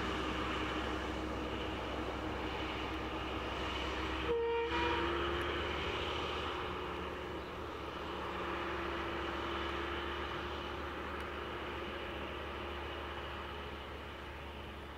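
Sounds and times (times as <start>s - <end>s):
diesel locomotive engine drone: 0.0s - 14.9s.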